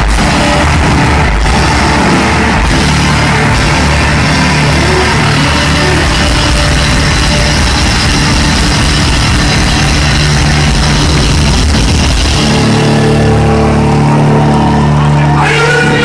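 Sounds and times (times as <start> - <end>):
distorted electric guitar wash: 0.0 - 16.0.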